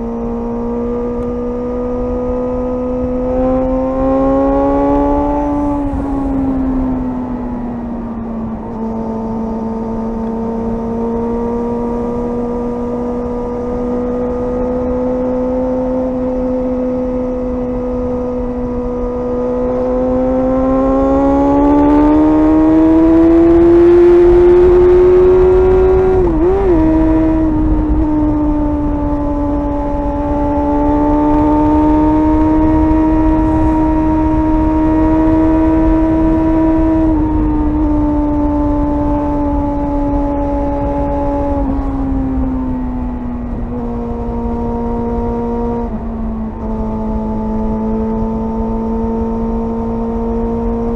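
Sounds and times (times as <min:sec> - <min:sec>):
motorcycle engine at high revs: 0:00.0 - 0:50.9.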